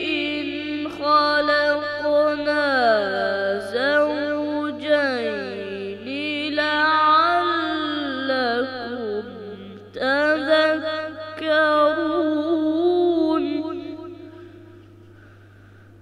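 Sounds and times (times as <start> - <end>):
boy chanting melodic recitation: 0.0 - 14.8
steady low hum: 0.0 - 16.0.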